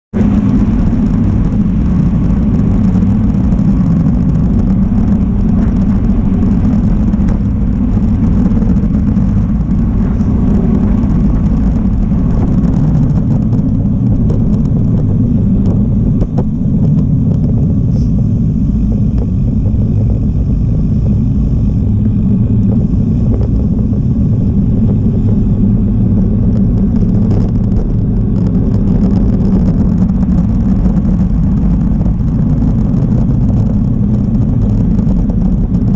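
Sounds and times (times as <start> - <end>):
wind buffeting microphone: 0.1 - 35.9.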